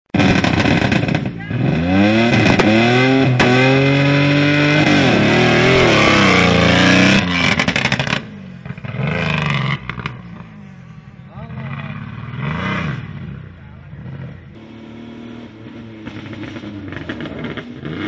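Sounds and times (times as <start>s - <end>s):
truck engine revving hard: 0.2s - 10.4s, 11.4s - 18.0s.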